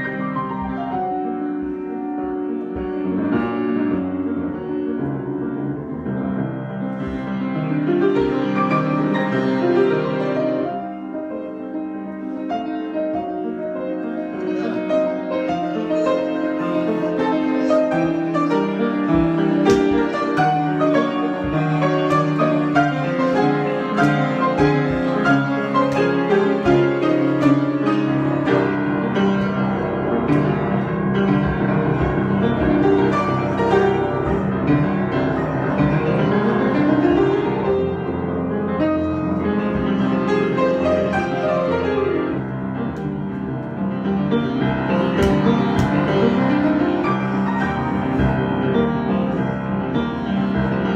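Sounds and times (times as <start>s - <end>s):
piano improvisation: 0.0s - 50.9s.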